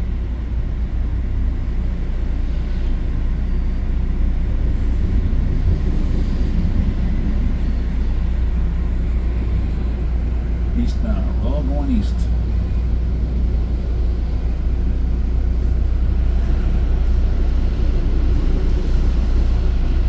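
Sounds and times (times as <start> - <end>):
train rumbling at speed: 0.0 - 20.0.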